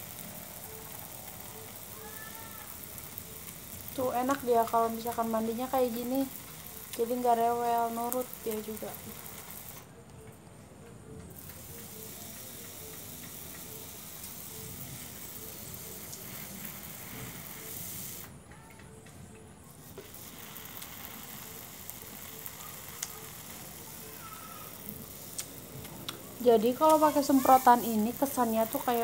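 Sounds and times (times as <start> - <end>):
hand sprayer misting water: 0.0 - 9.8, 11.4 - 18.4, 19.8 - 29.0.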